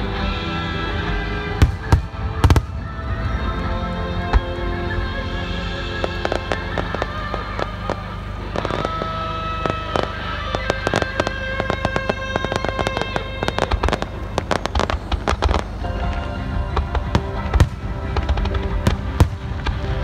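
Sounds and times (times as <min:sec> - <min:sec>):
music: 0:00.0 - 0:20.0
fireworks bangs and crackles: 0:01.0 - 0:20.0.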